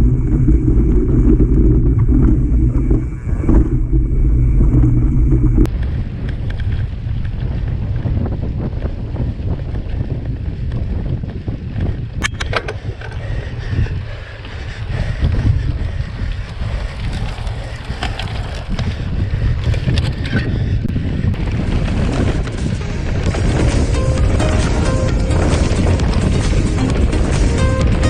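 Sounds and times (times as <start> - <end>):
bike rattling: 0.0 - 28.0
rumble of bike tyres: 0.0 - 28.0
wind buffeting microphone: 0.0 - 28.0.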